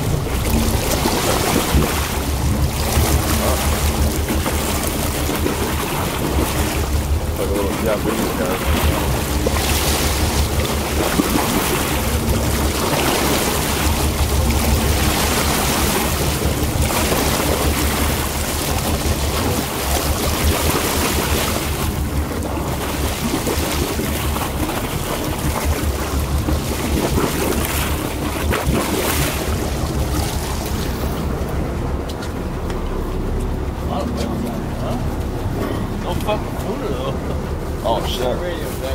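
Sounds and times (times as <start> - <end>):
water washing around boat: 0.0 - 38.9
wind buffeting microphone: 0.0 - 38.9.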